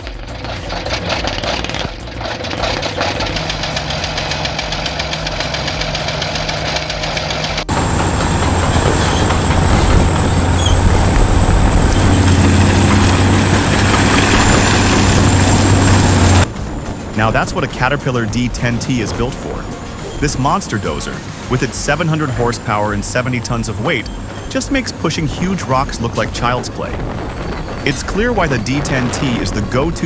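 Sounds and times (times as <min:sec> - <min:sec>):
bulldozer engine knocking: 0:00.0 - 0:30.0
heavy bulldozer engine: 0:00.0 - 0:30.0.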